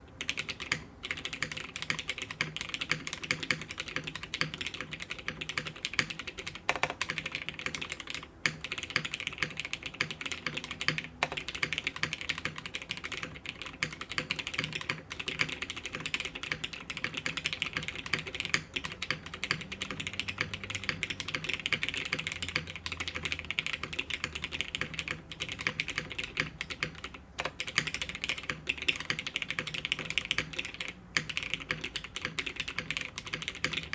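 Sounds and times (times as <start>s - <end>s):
fast mechanical keyboard typing: 0.2s - 33.9s.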